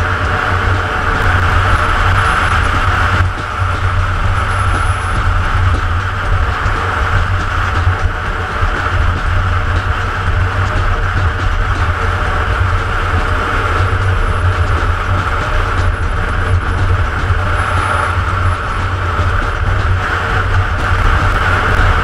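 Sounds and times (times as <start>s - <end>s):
motorcycle engine cruising: 0.0s - 22.0s
rushing wind: 0.0s - 22.0s.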